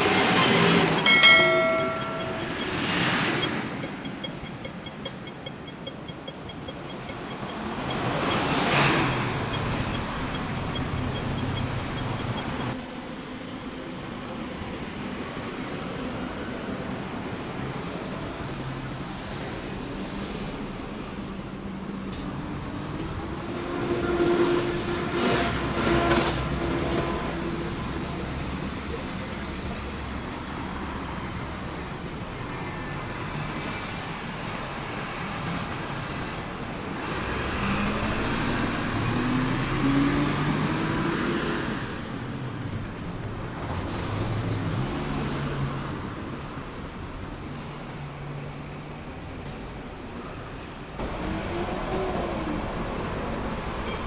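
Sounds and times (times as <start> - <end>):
road vehicles passing: 0.0 - 54.0.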